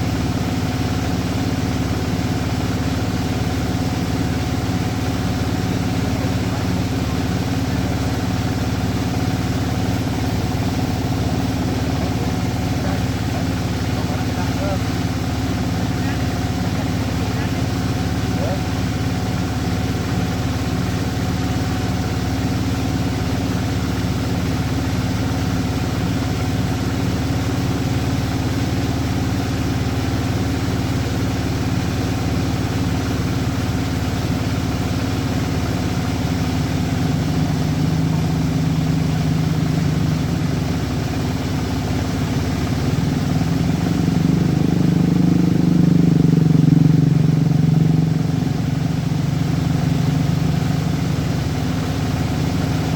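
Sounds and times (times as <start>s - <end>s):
engine running with low hum: 0.0s - 52.9s.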